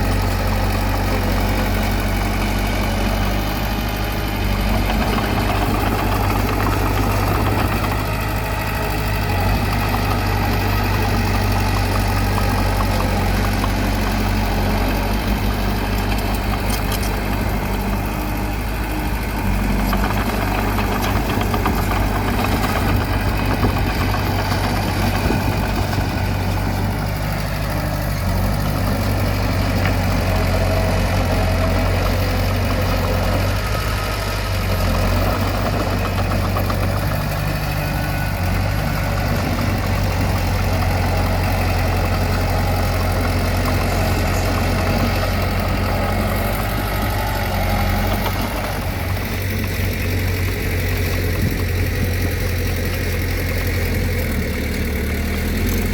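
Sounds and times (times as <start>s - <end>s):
heavy machine engine humming: 0.0s - 55.9s.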